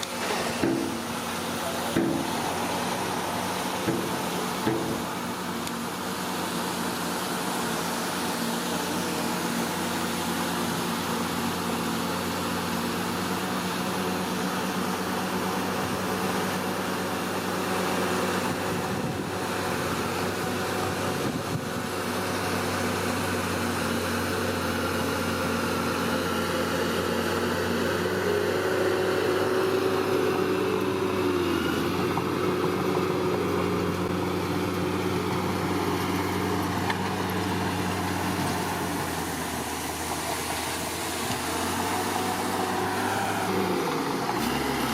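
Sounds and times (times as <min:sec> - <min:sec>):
bulldozer diesel engine running: 0:00.0 - 0:44.9.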